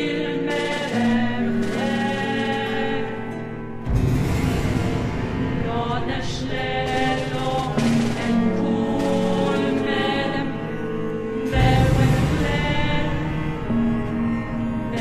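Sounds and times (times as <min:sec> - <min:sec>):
choir chanting: 0:00.0 - 0:15.0.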